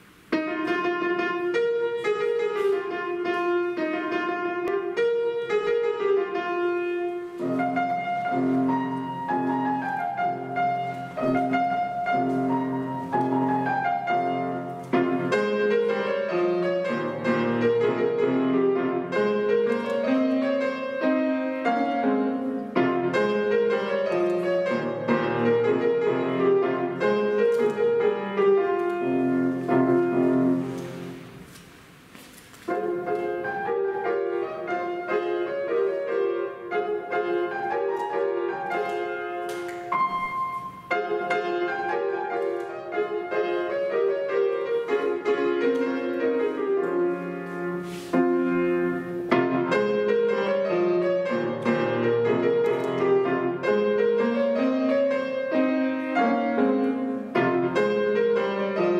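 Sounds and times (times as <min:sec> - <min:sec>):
grand piano playing: 0:00.0 - 0:58.9.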